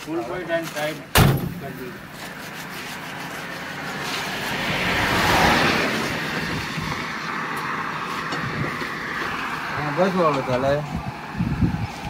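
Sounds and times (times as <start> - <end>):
vehicle passing on road: 1.5 - 12.0.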